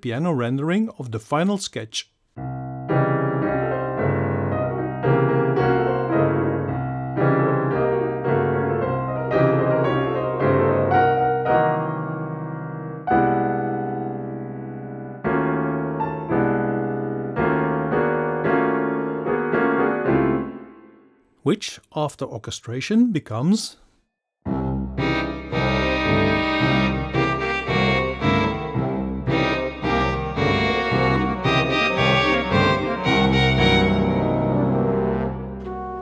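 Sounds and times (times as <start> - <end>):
solo piano march: 2.4 - 21.2, 24.5 - 36.0.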